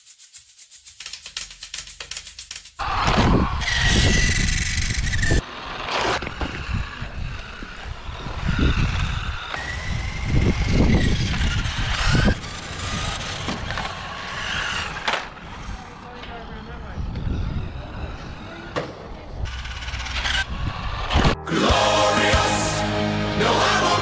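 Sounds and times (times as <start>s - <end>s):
toy car electric motor whining: 0.9s - 18.7s, 19.5s - 21.4s.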